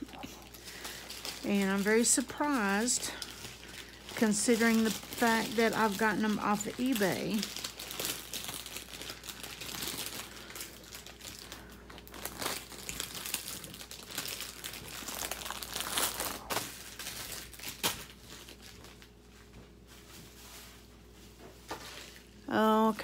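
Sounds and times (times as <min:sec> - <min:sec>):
plastic bags crinkling: 0:00.0 - 0:23.0.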